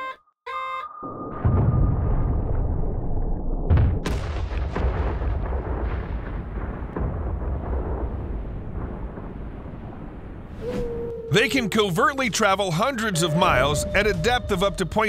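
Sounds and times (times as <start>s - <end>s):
explosions rumbling blasts: 1.3s - 15.0s.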